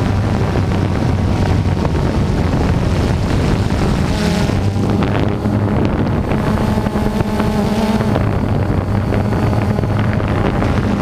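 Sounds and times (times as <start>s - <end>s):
drone propellers humming: 0.0s - 11.0s
wind noise on microphone: 0.0s - 11.0s.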